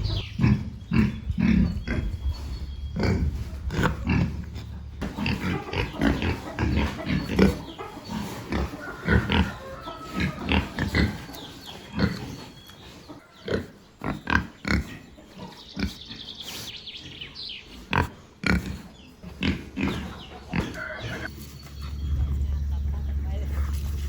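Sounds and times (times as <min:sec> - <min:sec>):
pigs grunting: 0:00.0 - 0:24.0.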